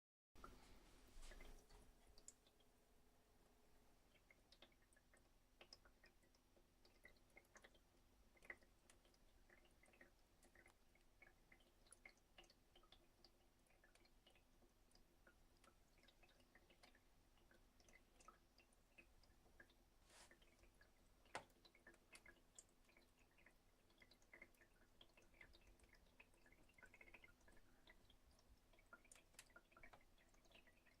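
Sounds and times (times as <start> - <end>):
water dripping through filter: 0.4 - 31.0.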